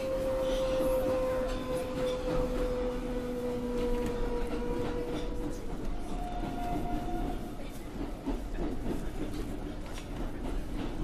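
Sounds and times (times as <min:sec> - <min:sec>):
subway car rumbling on rails: 0:00.0 - 0:11.0.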